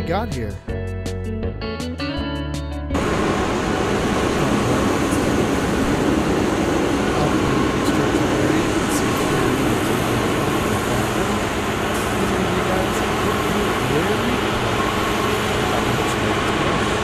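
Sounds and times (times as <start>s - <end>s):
heavy machinery rumbling: 3.0s - 17.0s.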